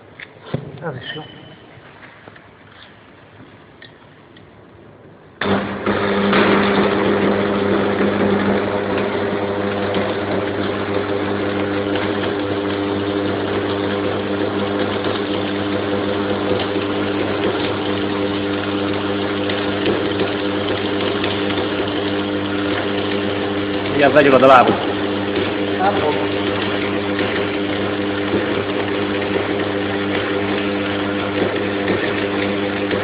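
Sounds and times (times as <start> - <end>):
welding machine hum: 5.4 - 33.0.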